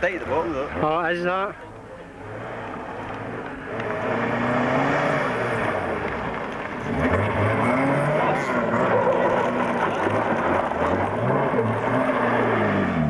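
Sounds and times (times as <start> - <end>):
car engine revving hard: 2.2 - 13.0.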